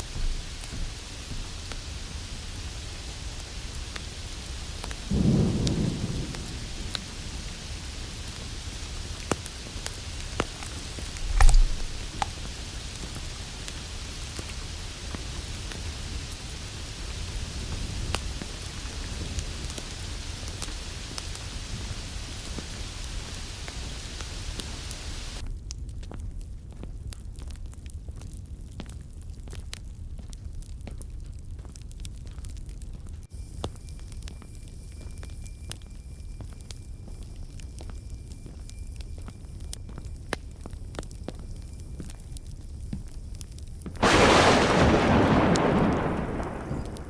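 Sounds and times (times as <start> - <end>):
fireplace hiss: 0.0 - 25.4, 33.4 - 47.0
fire crackles: 0.0 - 47.0.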